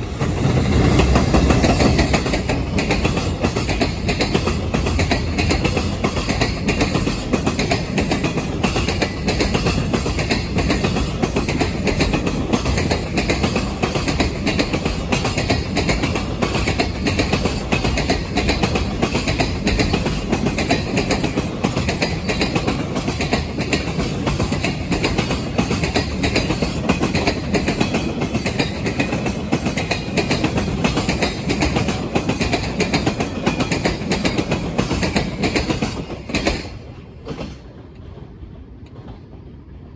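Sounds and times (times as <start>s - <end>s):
train wheels clattering over rail joints: 0.0s - 39.3s.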